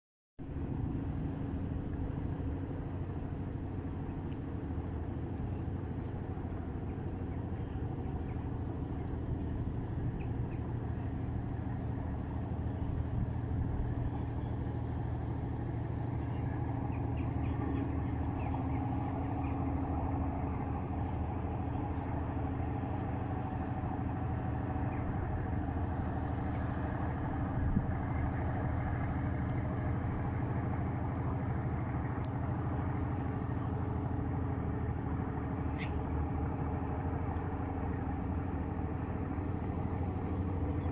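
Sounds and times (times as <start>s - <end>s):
boat engine humming: 0.4s - 40.9s.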